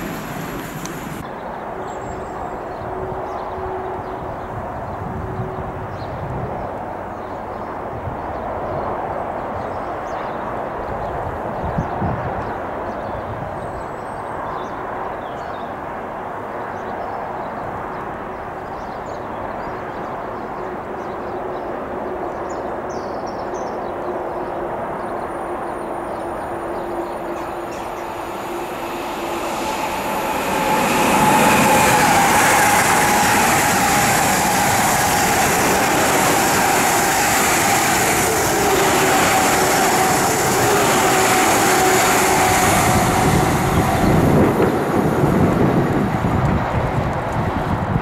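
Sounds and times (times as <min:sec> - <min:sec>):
high-speed train passing: 0:00.0 - 0:48.0.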